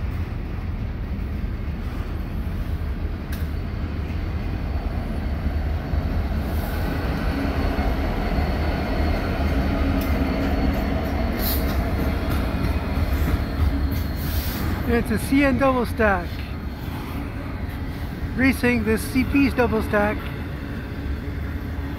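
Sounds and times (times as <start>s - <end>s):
diesel locomotive engine rumble: 0.0s - 21.9s
steel wheels on rail: 0.0s - 21.9s.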